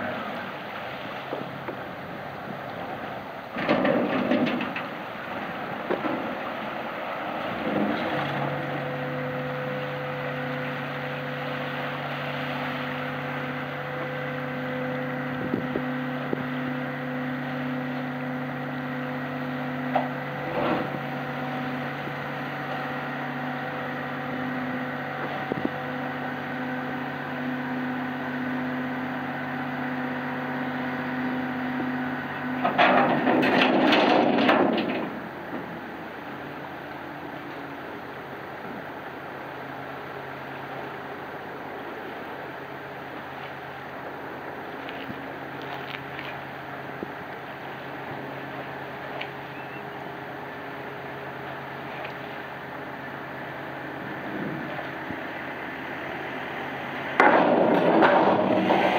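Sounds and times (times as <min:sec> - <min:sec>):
ferry engines droning: 0:00.0 - 0:58.9.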